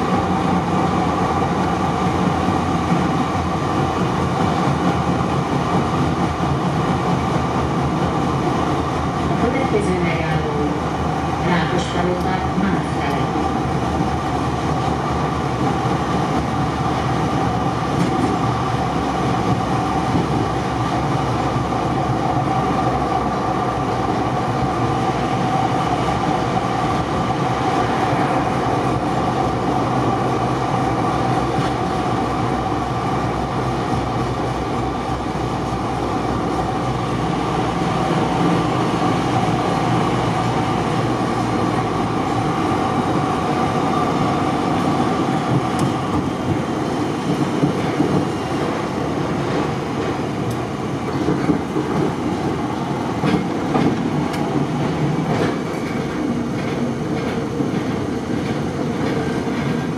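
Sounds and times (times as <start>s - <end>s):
tram rolling with whine: 0.0s - 59.9s.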